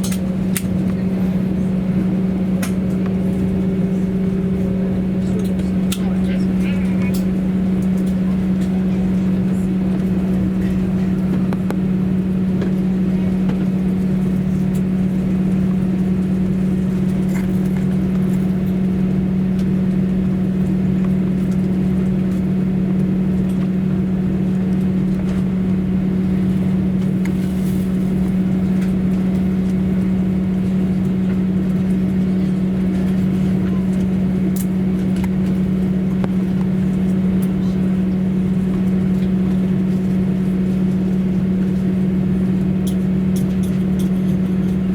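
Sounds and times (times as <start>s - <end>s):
jet engine cabin drone: 0.0s - 44.9s.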